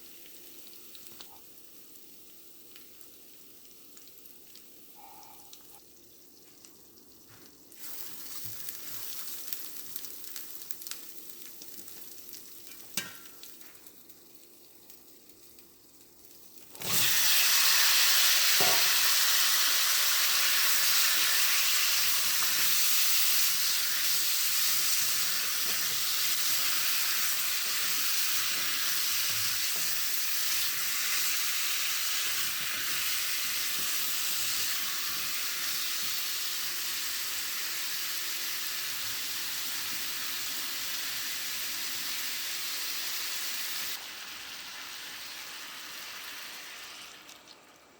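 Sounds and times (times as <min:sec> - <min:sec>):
food sizzling in a pan: 0:00.0 - 0:47.5.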